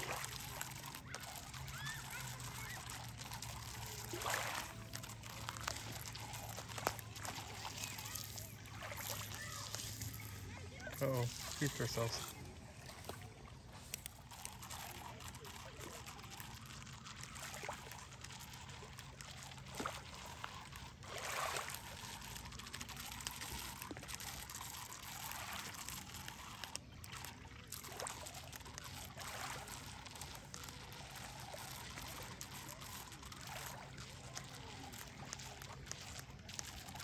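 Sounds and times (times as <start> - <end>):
lake water lapping: 0.0 - 37.0
water splashing: 0.0 - 37.0.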